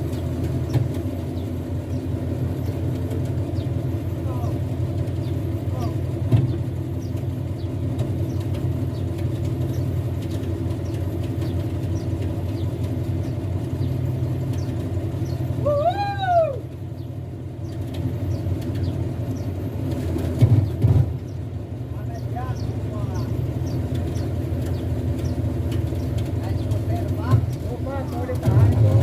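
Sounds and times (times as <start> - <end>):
heavy truck engine running: 0.0 - 29.0.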